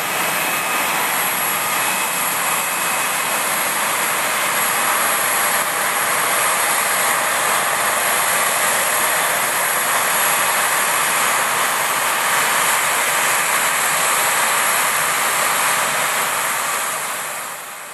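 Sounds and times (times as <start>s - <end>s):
jet engines idling: 0.0s - 17.9s.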